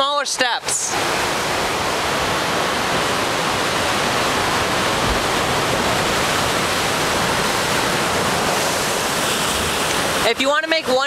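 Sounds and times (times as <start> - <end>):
ocean surf breaking on rocks: 0.0 - 11.0.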